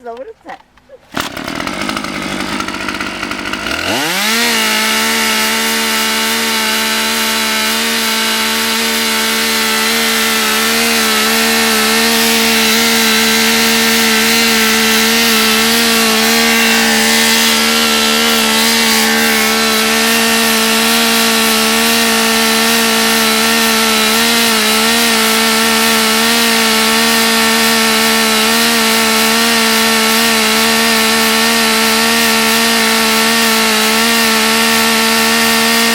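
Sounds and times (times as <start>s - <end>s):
chainsaw revving at high revs: 1.1s - 35.9s.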